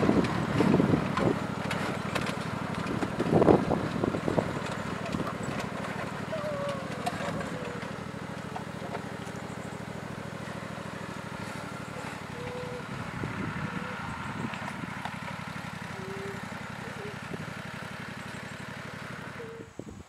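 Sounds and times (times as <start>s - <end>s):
small engine running under load: 0.0s - 19.9s.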